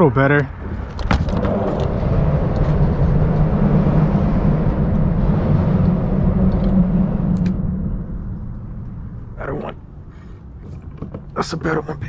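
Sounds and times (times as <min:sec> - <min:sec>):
traffic rumble on bridge: 0:00.0 - 0:12.0.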